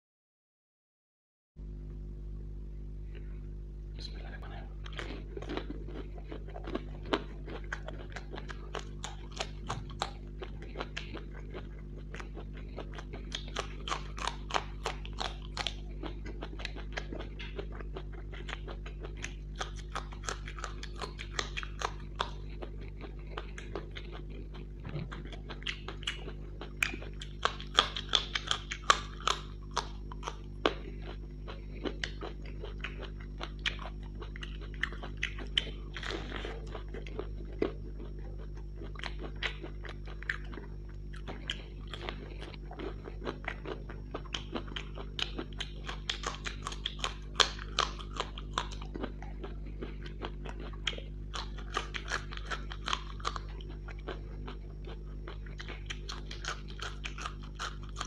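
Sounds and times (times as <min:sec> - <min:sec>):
steady low hum: 0:01.6 - 0:58.0
crisp food crunching: 0:04.1 - 0:58.0
wet chewing: 0:04.3 - 0:58.0.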